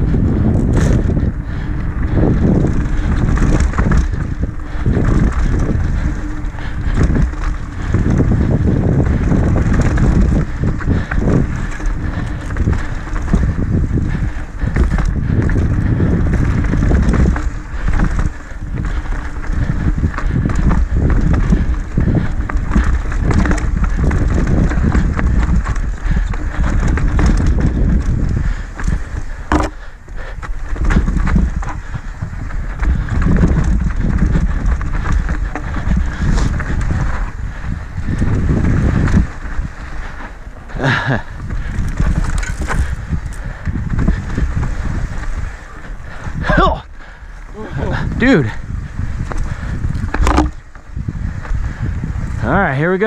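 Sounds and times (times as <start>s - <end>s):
bike rattling and knocking: 0.0s - 53.0s
wind buffeting microphone: 0.0s - 53.0s
tyres rolling over dirt: 2.1s - 53.0s.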